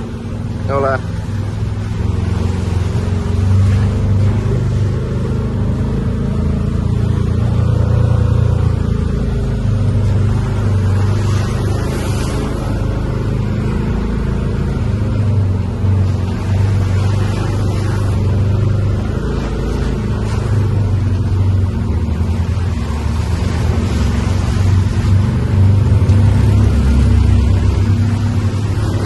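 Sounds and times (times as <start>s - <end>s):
road and wind noise: 0.0s - 29.0s
vehicle engine running steadily: 0.0s - 29.0s.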